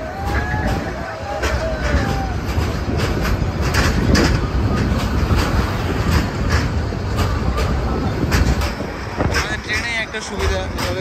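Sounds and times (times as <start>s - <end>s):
train rumble: 0.0s - 11.0s
wheels clacking over rail joints: 0.0s - 11.0s.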